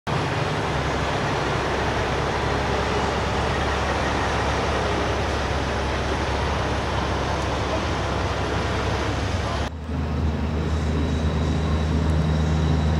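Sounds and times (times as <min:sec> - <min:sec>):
diesel truck engine: 0:00.1 - 0:12.9
road and traffic noise: 0:00.1 - 0:12.9.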